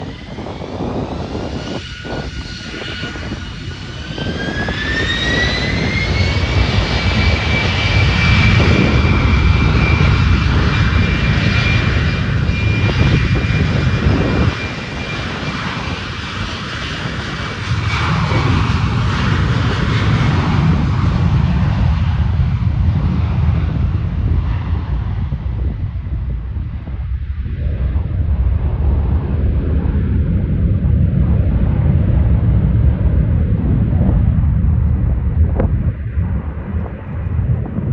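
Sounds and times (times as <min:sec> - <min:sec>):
jet engines spooling up: 0:00.0 - 0:37.9
rumble of jet noise: 0:00.0 - 0:37.9.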